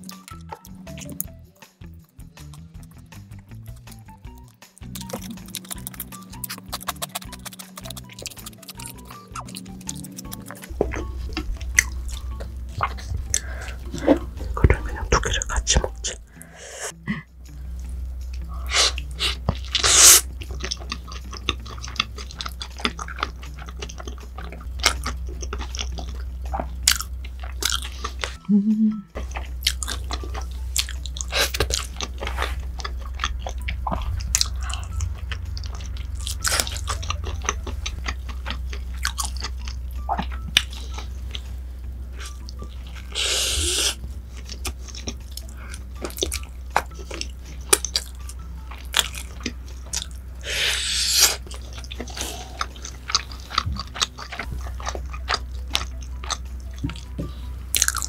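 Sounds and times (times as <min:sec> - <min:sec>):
chewing crunchy food: 0:02.4 - 0:16.2, 0:18.3 - 0:28.4, 0:29.2 - 0:58.0
steady low hum: 0:05.1 - 0:58.0.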